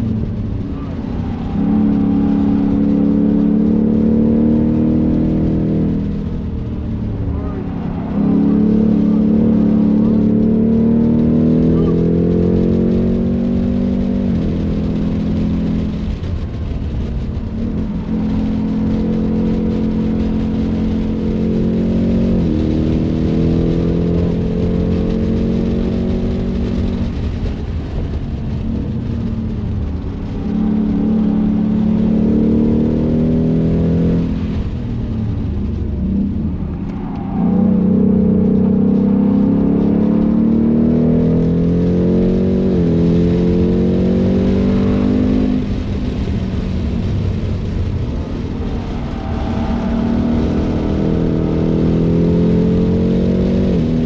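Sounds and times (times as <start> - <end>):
engine accelerating through upshifts: 0.0 - 54.0.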